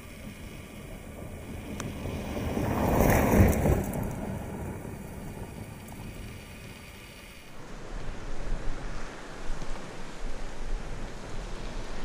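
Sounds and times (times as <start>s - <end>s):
car passing on gravel: 0.0s - 12.0s.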